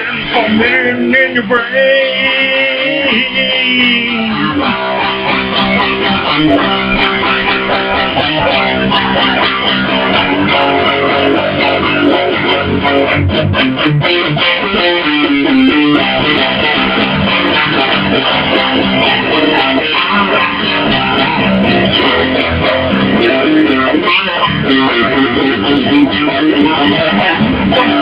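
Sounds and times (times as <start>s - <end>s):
instrumental rock guitar music: 0.0s - 28.0s.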